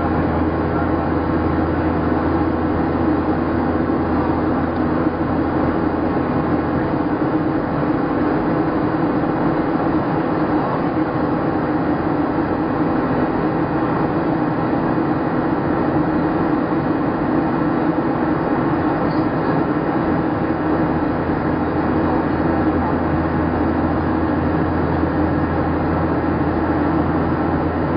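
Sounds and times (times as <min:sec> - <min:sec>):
airliner cabin engine hum: 0:00.0 - 0:27.9.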